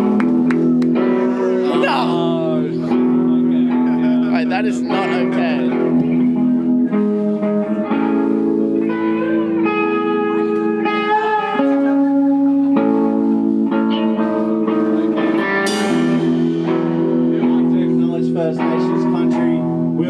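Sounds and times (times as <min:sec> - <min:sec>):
guitars ringing chords: 0:00.0 - 0:20.0
live band playing: 0:00.0 - 0:20.0.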